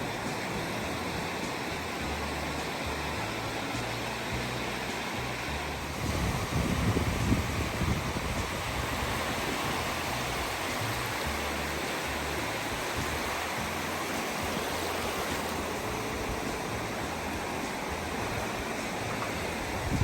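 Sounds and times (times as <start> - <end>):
sea waves washing in shallows: 0.0 - 20.0.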